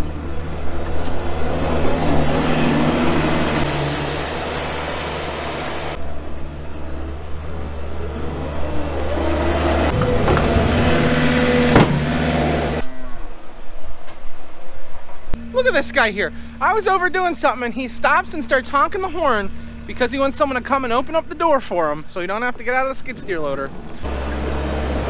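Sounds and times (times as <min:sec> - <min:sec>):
loader engine running: 0:00.0 - 0:25.0.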